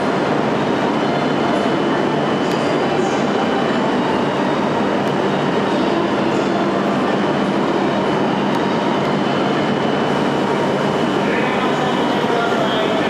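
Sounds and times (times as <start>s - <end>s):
train running noise with high whine: 0.0s - 13.0s.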